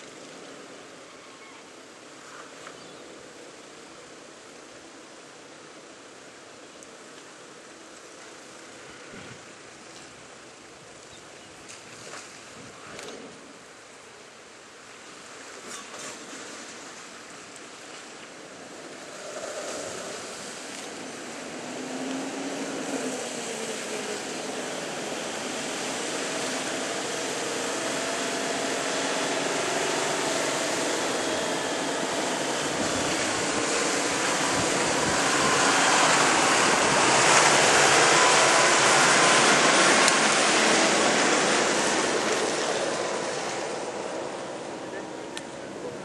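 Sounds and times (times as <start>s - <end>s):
rushing water: 0.0s - 46.0s.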